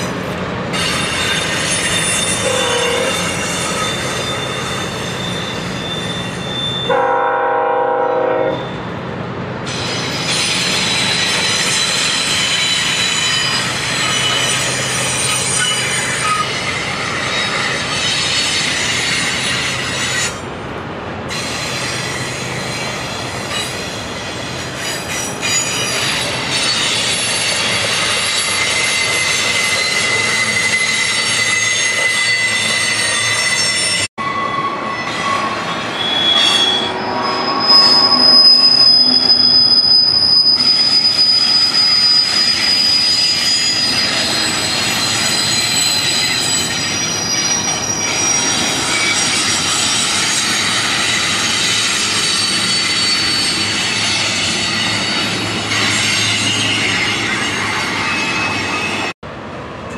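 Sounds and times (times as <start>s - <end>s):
wheels squealing against rails: 0.0s - 7.2s, 8.3s - 9.0s, 9.7s - 20.5s, 21.3s - 59.2s
freight train rumbling: 0.0s - 59.9s.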